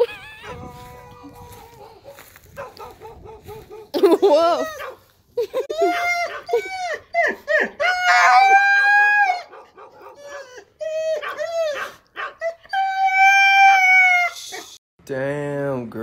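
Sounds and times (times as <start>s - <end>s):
dog howling and yowling: 0.0s - 3.9s, 5.7s - 14.7s.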